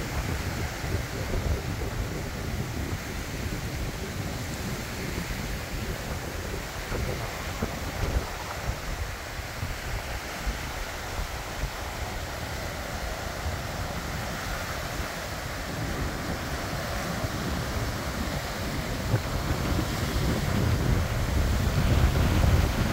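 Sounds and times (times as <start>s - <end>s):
surf on rocky shore: 0.0s - 22.9s
wind gusting on microphone: 0.0s - 22.9s.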